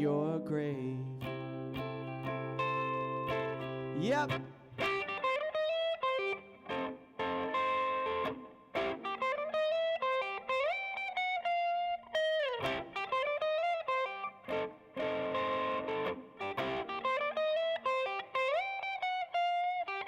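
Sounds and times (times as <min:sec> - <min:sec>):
guitar playing: 0:00.0 - 0:20.0.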